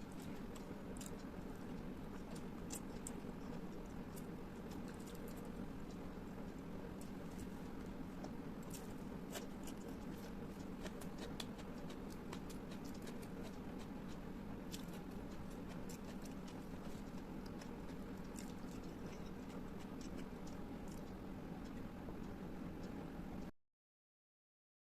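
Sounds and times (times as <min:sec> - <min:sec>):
chewing and mouth sounds: 0:00.0 - 0:23.0
steady low hum: 0:00.0 - 0:23.5.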